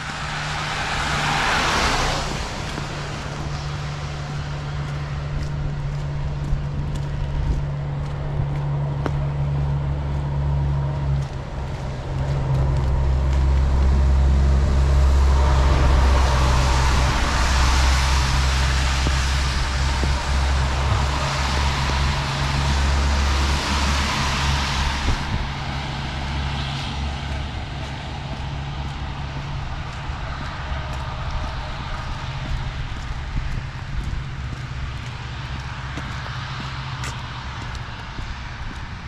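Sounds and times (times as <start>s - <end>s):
tyres hissing on wet road: 0.0s - 5.2s, 10.3s - 38.9s
low traffic rumble: 0.0s - 39.0s.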